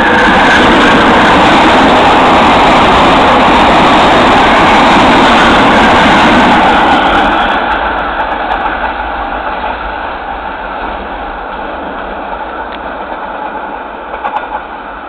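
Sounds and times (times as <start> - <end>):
train wheels rushing: 0.0 - 15.0.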